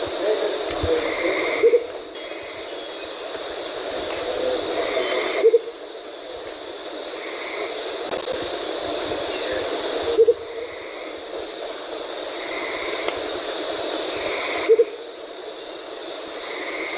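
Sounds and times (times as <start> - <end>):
high-pitched background drone: 0.0 - 16.9.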